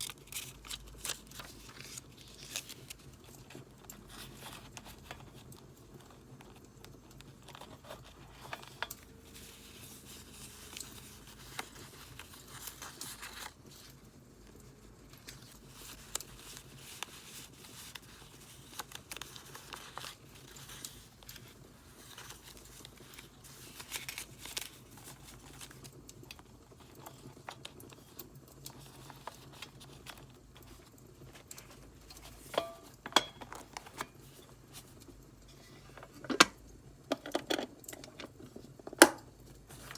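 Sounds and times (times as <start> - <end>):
paper crinkling and rustling: 0.0 - 36.4, 38.0 - 39.9.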